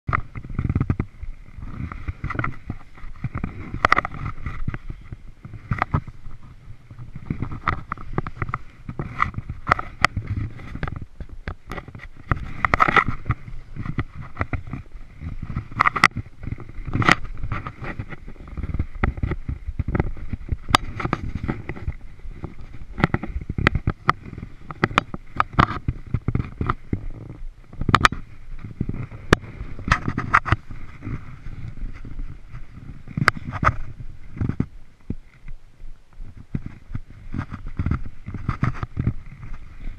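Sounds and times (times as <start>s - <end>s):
clothing rubbing on camera: 0.1s - 39.9s.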